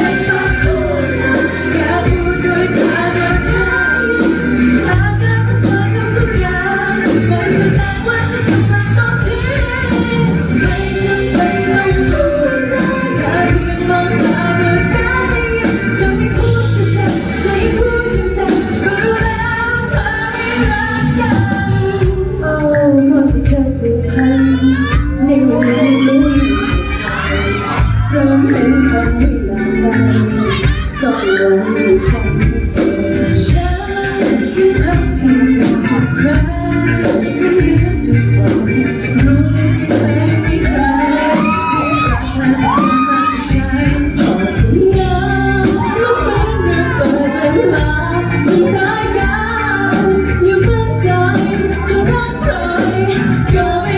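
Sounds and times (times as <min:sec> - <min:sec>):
live pop-rock band: 0:00.0 - 0:53.9
steady drum beat: 0:00.0 - 0:53.9
woman singing: 0:00.0 - 0:53.9.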